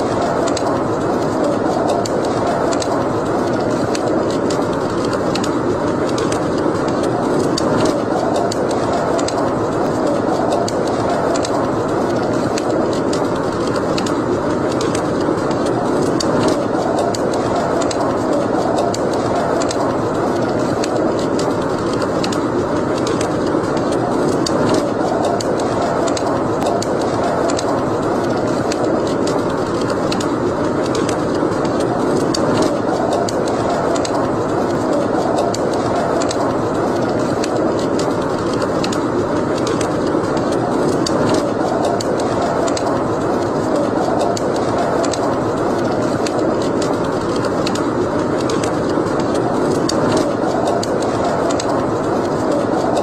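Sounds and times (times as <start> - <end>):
wood fire crackling and hissing: 0.0 - 53.0.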